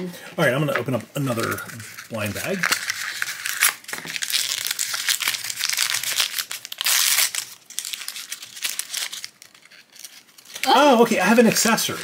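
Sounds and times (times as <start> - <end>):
foil wrapper crinkling and tearing: 0.9 - 12.0.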